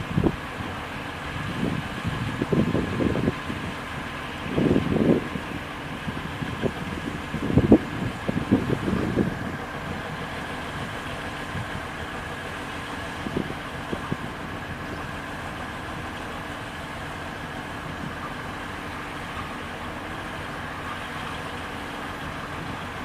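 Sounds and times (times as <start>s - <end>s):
diesel locomotive engine droning: 0.0s - 23.0s.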